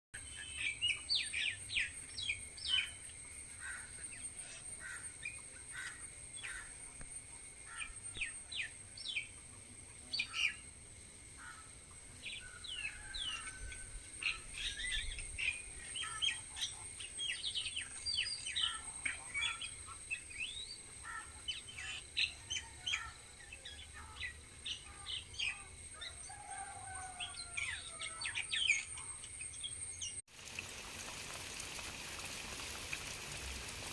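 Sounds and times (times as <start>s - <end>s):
birds chirping and trilling: 0.2s - 7.0s, 7.6s - 9.4s, 10.0s - 10.6s, 11.4s - 30.2s.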